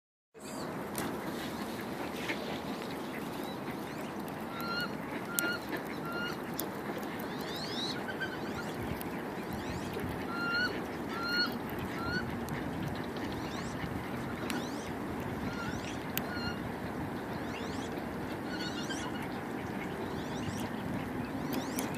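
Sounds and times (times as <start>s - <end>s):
bird calling: 0.4s - 21.9s.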